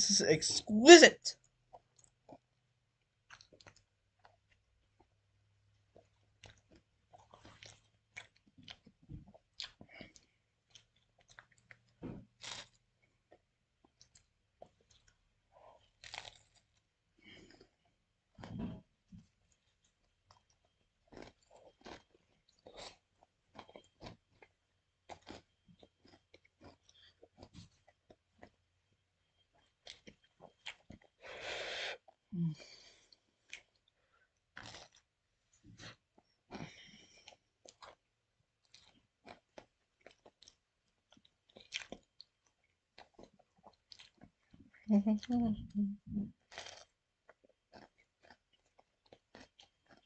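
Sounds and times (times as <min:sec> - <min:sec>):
chewing with faint crunches: 0:01.4 - 0:31.4, 0:32.0 - 0:45.3, 0:46.3 - 0:50.0.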